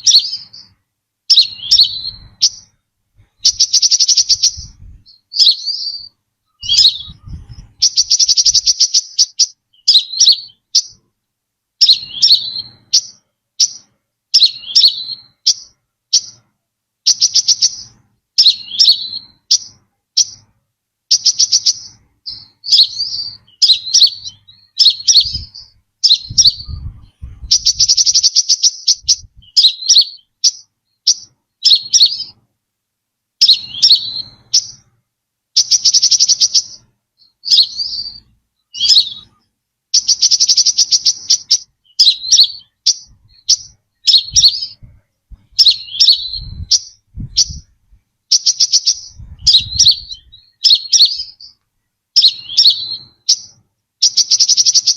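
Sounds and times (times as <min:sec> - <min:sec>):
buzzy bird trills: 0:00.0 - 0:11.0, 0:11.8 - 0:16.4, 0:17.1 - 0:20.5, 0:21.1 - 0:32.4, 0:33.4 - 0:34.9, 0:35.6 - 0:51.6, 0:52.2 - 0:54.9
sharp down-slurred bird chirps: 0:00.0 - 0:11.2, 0:11.8 - 0:32.5, 0:33.4 - 0:54.9.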